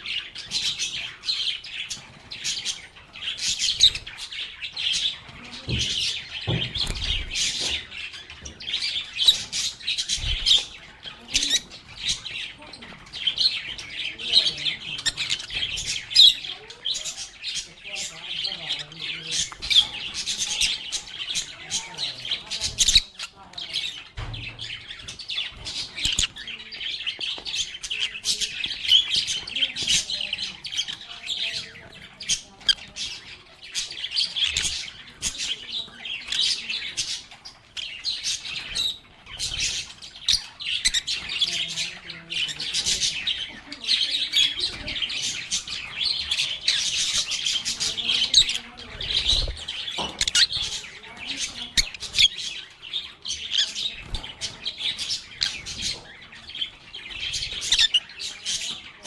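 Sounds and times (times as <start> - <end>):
lovebirds chattering: 0.0 - 59.0.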